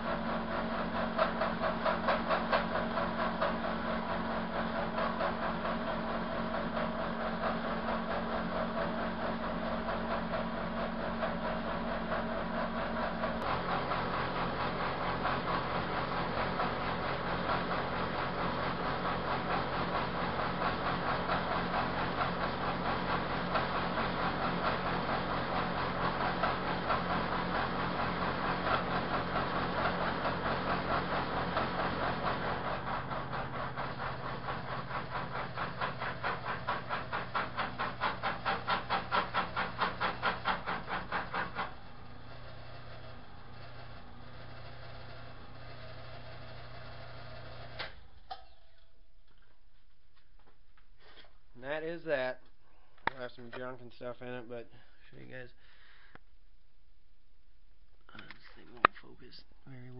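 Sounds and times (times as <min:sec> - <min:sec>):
machine hum: 0:00.0 - 0:55.1.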